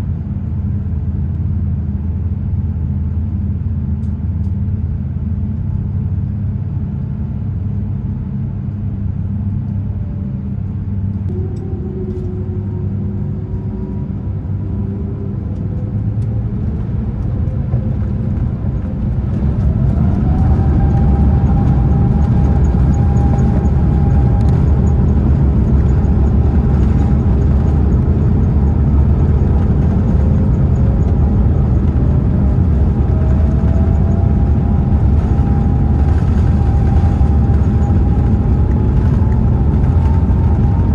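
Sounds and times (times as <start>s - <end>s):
jet engines rumbling and whining: 0.0s - 40.9s.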